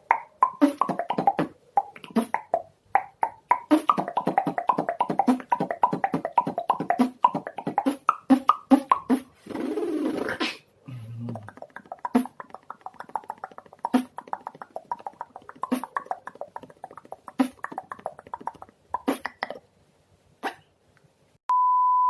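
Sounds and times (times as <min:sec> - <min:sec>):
beatboxing tongue clicks: 0:00.0 - 0:19.7.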